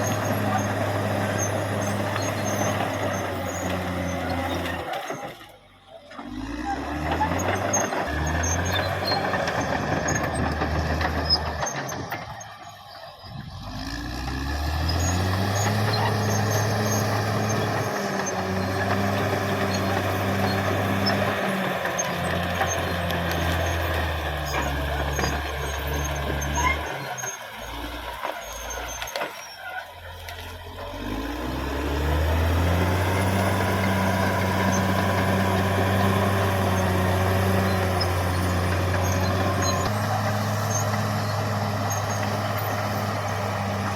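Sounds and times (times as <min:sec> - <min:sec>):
bulldozer diesel engine under load: 0:00.0 - 0:43.9.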